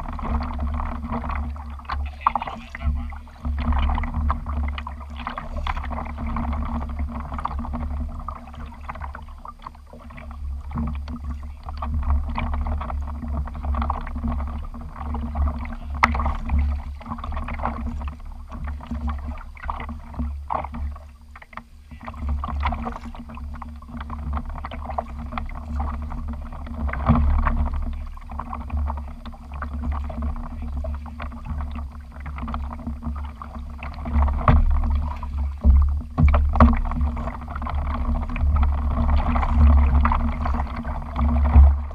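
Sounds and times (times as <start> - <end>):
water lapping and splashing: 0.0 - 41.9
wind rumble on microphone: 0.0 - 41.9.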